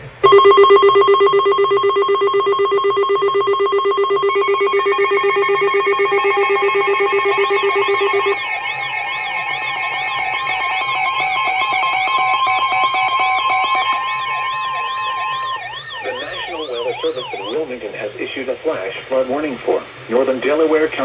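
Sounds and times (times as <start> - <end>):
steady alarm tone: 0.0 - 17.6
rapid pulsing beep: 0.2 - 17.6
fast-warbling siren tone: 0.3 - 17.6.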